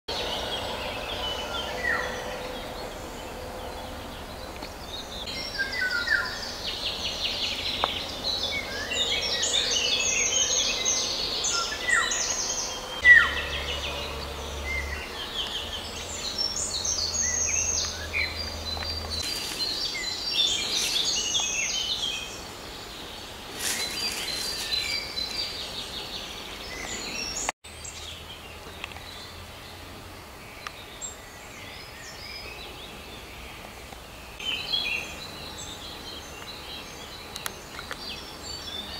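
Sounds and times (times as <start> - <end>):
songbirds singing: 0.1 - 38.9.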